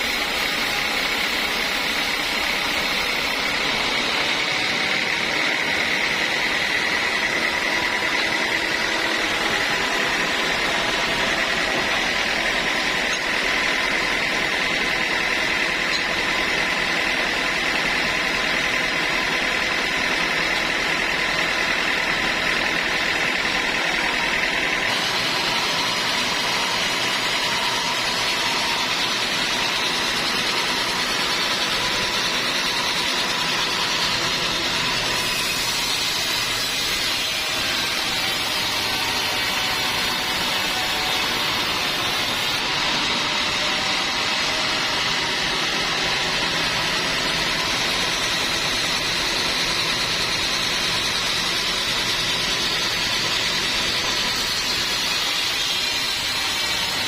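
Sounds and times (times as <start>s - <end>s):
machine noise: 0.0s - 57.0s
saw whining through log: 0.0s - 57.0s.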